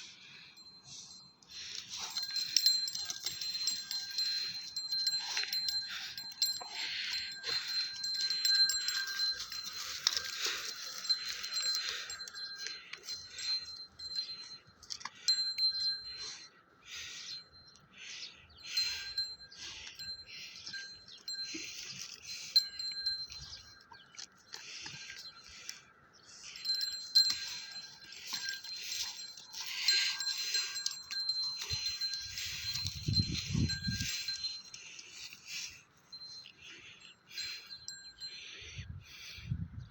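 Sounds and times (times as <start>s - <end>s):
steady ringing tone: 0.0s - 39.3s
cattle bells jingling: 0.0s - 39.5s.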